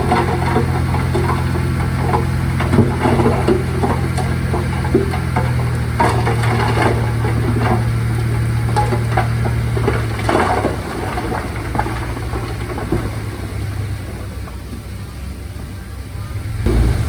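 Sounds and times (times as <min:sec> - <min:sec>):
metallic clanks and knocks: 0:00.0 - 0:14.3
heavy diesel engine running: 0:00.0 - 0:17.0.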